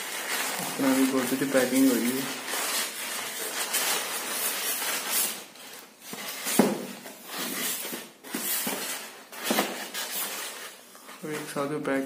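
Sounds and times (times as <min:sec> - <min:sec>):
foam package handled: 0:00.0 - 0:11.7
plastic bag rustling and crinkling: 0:00.0 - 0:12.0.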